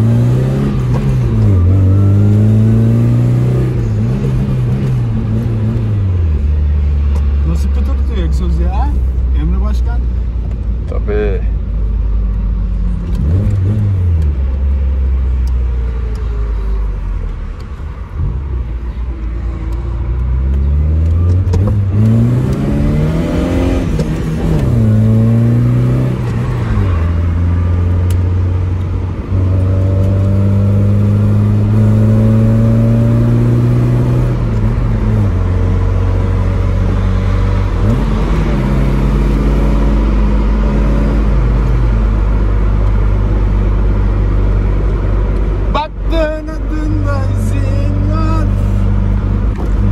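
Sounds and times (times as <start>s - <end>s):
car engine accelerating through gears: 0.0s - 8.4s, 12.3s - 49.9s.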